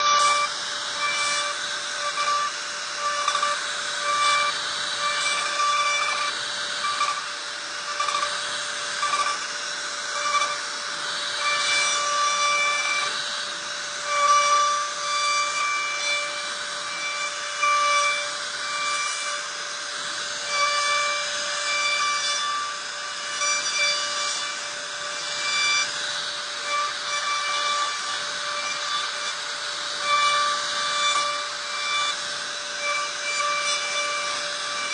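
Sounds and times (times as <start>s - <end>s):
machine cutting whine and rasp: 0.0s - 34.9s.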